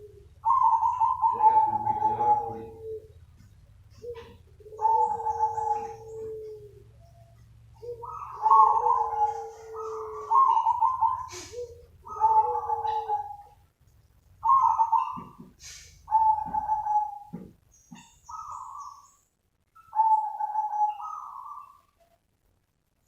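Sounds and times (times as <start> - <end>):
dove cooing in rolling phrases: 0.0 - 13.8, 14.4 - 19.2, 19.8 - 22.1.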